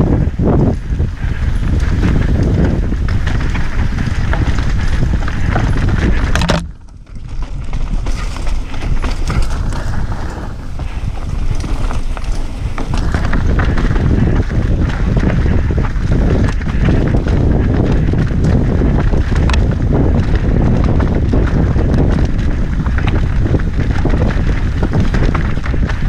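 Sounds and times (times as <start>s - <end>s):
bike rattling and knocking: 0.0s - 26.0s
wind buffeting microphone: 0.0s - 26.0s
tyres crunching on dirt and rocks: 1.5s - 26.0s.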